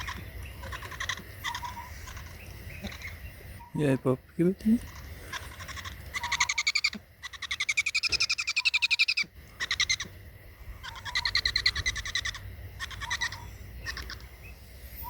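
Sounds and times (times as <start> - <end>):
owl chittering calls: 0.0 - 4.0, 4.7 - 15.0.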